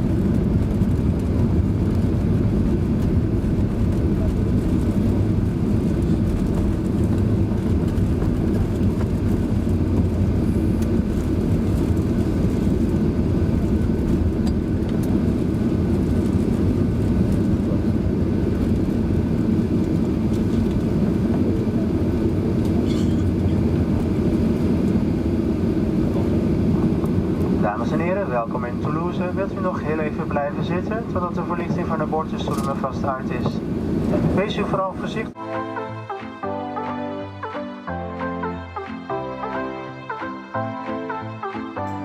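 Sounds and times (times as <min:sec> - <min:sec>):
airplane cabin rumble: 0:00.0 - 0:35.9.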